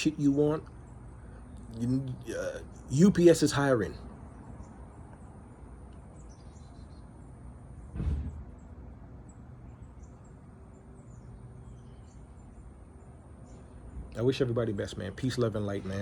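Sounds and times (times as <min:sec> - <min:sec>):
faint bird chirps: 0:00.0 - 0:16.0
outdoor background noise: 0:00.0 - 0:16.0.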